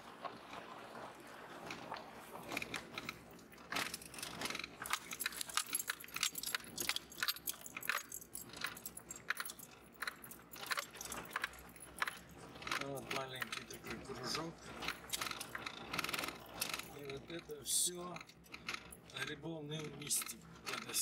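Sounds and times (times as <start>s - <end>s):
crunching and rattling clicks: 1.6s - 21.0s.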